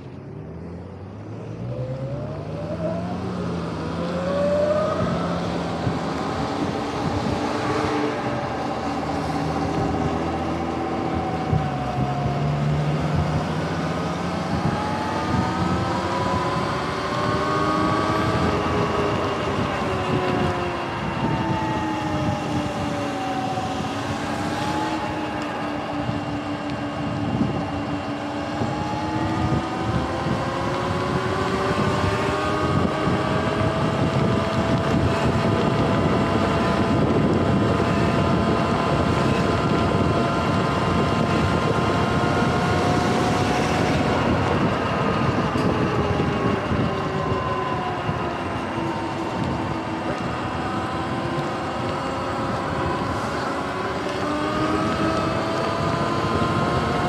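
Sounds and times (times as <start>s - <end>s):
electric motor whining: 1.9s - 57.0s.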